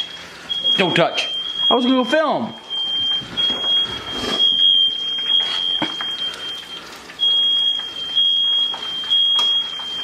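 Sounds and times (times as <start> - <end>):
smoke alarm shrill tone: 0.0 - 10.0.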